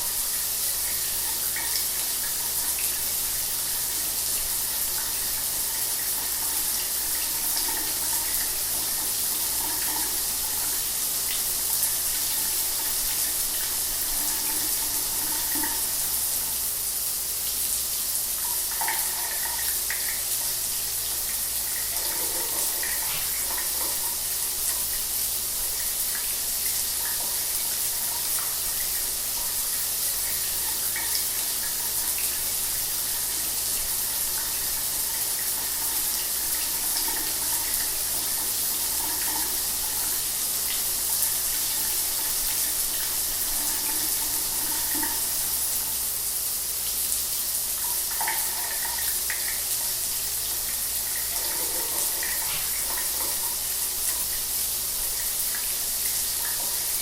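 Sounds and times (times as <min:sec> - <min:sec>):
shower water running: 0:00.0 - 0:57.0.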